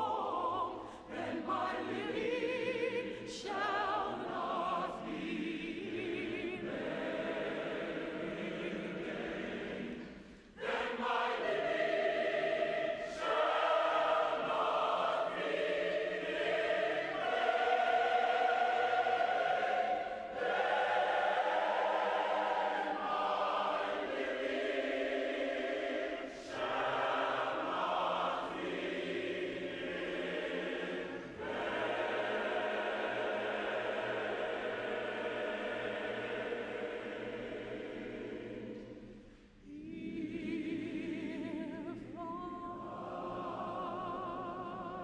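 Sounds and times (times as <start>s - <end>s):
large choir singing: 0.0s - 45.0s.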